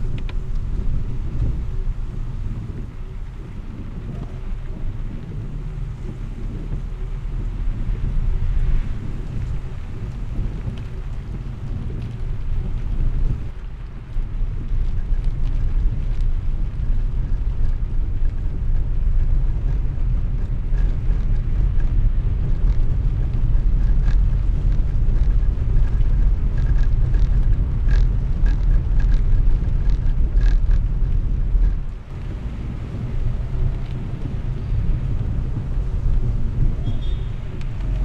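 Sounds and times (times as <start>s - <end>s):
car tyres and engine rumble: 0.0s - 38.0s
light rain ticks: 0.0s - 38.0s.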